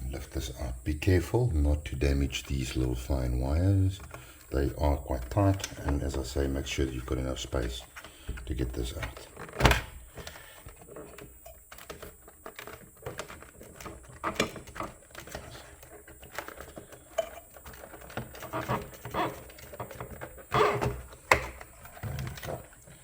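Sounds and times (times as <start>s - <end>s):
plastic parts clicking and rattling: 2.3s - 23.0s.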